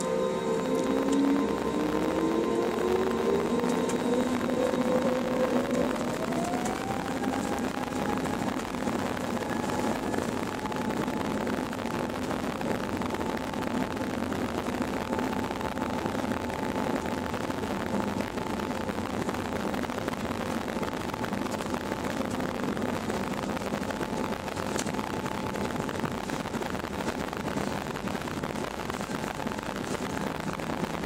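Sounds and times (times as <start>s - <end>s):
faint steady whine: 0.0s - 31.0s
jet engine and cabin rumble: 0.0s - 31.0s.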